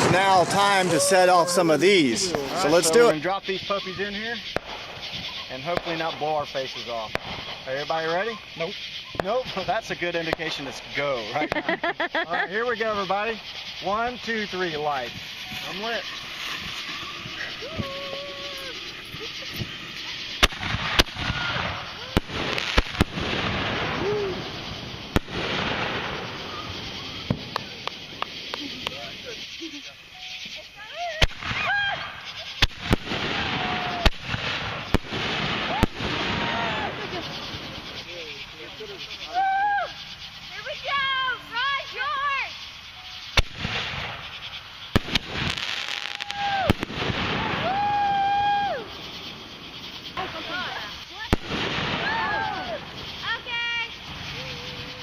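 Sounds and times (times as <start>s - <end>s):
firework bang: 0.0s - 10.8s, 13.5s - 29.4s, 30.9s - 39.0s, 43.3s - 54.5s
fireworks crackling hiss: 0.0s - 55.0s.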